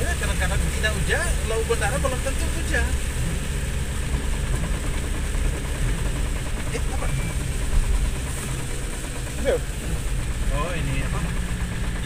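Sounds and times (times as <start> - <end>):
car driving on wet road: 0.0 - 12.0.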